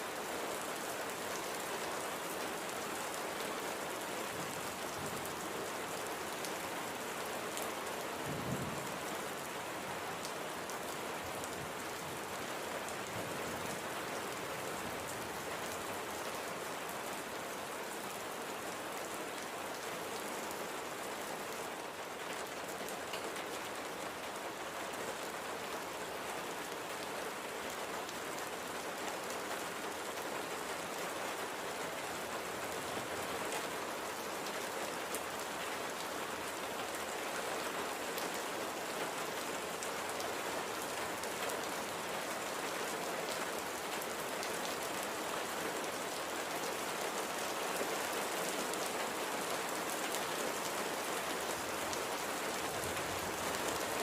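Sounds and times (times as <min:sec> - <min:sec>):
light rain pattering: 0:00.0 - 0:54.0.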